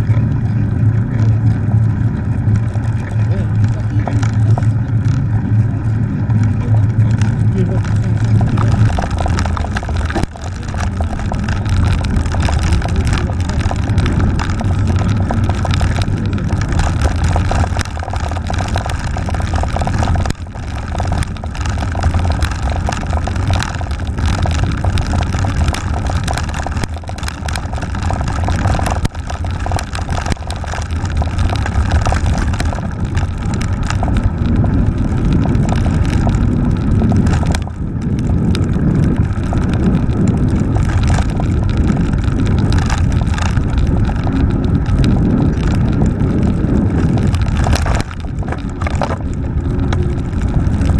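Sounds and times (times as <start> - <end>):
bike rattling over cobblestones: 0.0 - 50.9
wind on microphone: 0.0 - 50.9.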